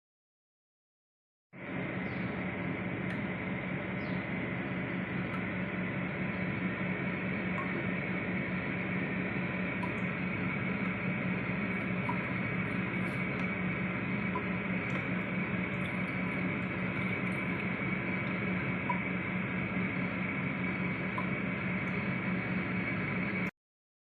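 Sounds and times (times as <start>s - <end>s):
low hum: 1.6s - 23.5s
water heater hiss and rumble: 1.6s - 23.5s.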